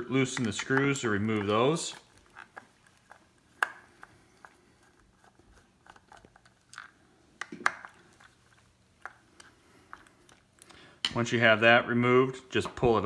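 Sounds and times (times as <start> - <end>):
plastic knobs being handled: 0.0 - 11.2.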